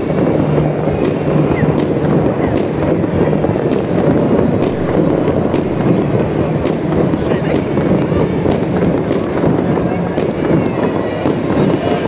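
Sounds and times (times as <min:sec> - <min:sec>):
fireworks cracking: 0:00.0 - 0:12.0
rising firework whistles: 0:00.0 - 0:12.0
rumble of distant fireworks: 0:00.0 - 0:12.0.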